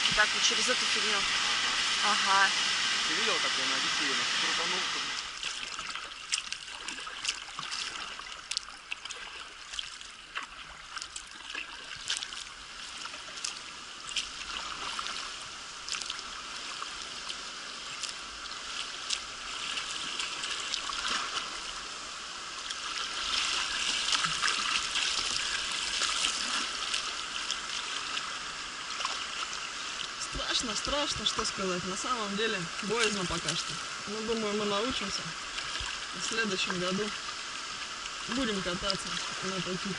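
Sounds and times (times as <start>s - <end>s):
river water rushing over rapids: 0.0s - 39.9s
sharp water splashes: 0.0s - 39.9s.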